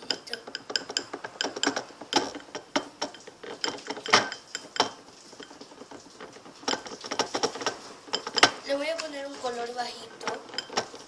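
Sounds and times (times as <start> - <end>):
slime being stirred: 0.0 - 11.0.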